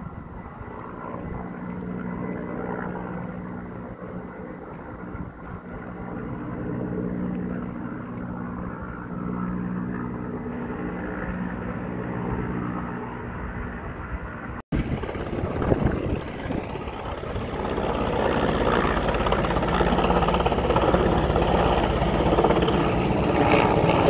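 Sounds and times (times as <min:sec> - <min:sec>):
helicopter rotor and engine drone: 0:00.0 - 0:24.0.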